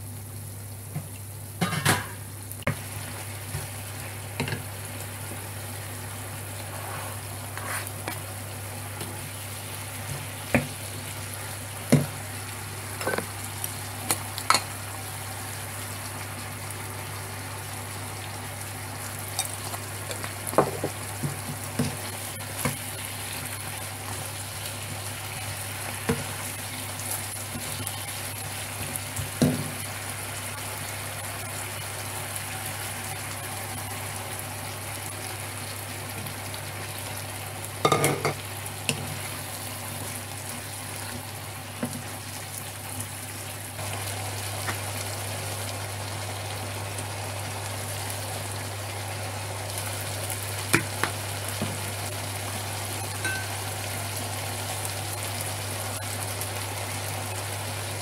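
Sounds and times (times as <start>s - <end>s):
chicken sizzling in a frying pan: 0.0s - 58.0s.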